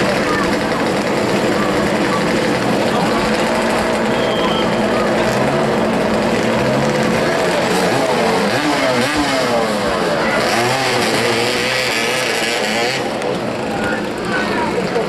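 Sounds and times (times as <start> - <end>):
crowd shouting: 0.0 - 15.0.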